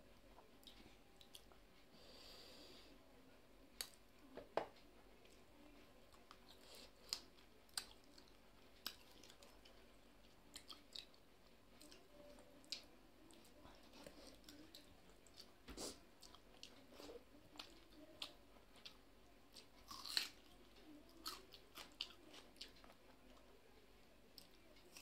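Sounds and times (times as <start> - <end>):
chewing soft food: 0.1 - 1.9, 5.2 - 25.0.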